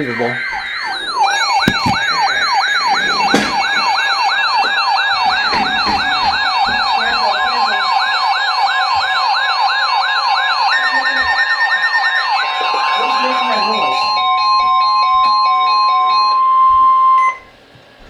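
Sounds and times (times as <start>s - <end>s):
steady beep tone: 0.0s - 17.5s
electronic whooping alarm: 0.0s - 17.6s.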